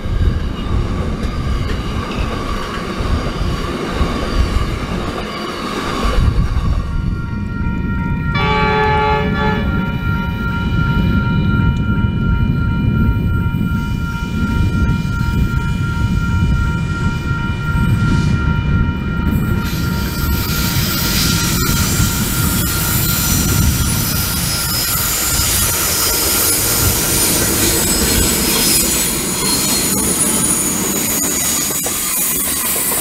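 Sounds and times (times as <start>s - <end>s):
diesel locomotive engine rumble: 0.0s - 33.0s
train wheels squealing on track: 0.0s - 33.0s.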